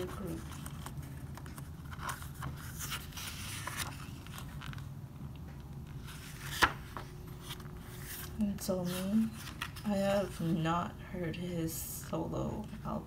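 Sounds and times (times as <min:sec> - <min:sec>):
pages rustling: 0:00.0 - 0:10.6
low steady hum: 0:00.0 - 0:13.0.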